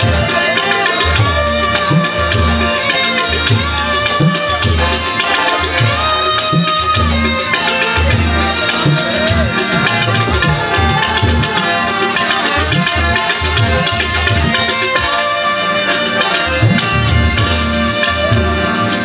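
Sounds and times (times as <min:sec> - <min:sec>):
harmonium melody: 0:00.0 - 0:19.0
tabla rhythm: 0:00.0 - 0:19.0
violin melody: 0:00.0 - 0:19.0.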